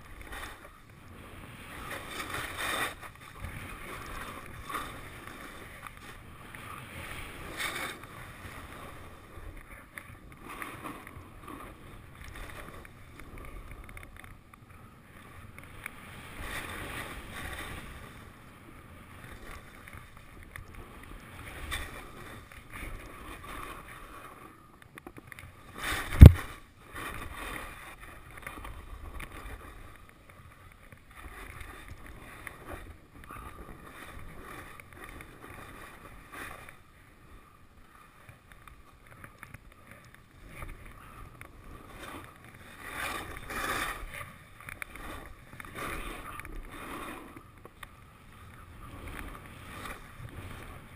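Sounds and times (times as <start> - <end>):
skis swishing through snow: 0.0 - 13.8, 14.8 - 24.6, 25.5 - 50.9.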